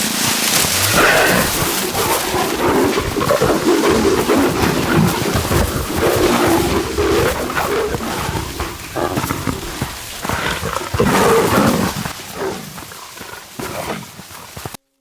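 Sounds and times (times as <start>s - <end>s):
big cats growling and snarling: 0.4s - 14.8s.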